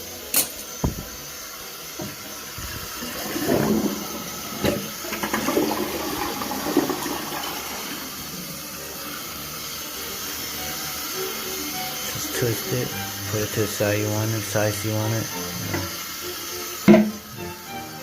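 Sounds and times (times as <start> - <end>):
water running into toilet tank: 0.0 - 18.0.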